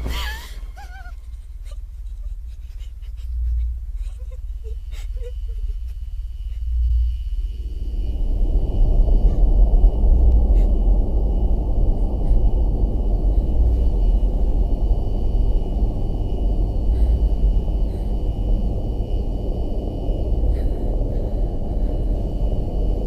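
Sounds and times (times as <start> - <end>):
loud low rumbling drone: 0.0 - 23.0.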